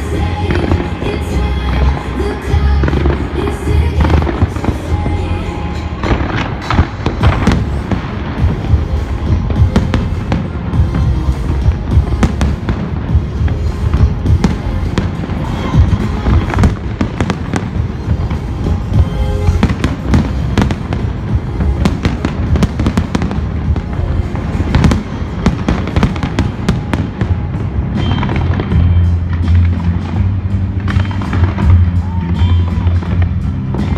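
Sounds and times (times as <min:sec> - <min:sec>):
fireworks bangs and crackles: 0:00.0 - 0:33.9
loud music playing: 0:00.0 - 0:33.9.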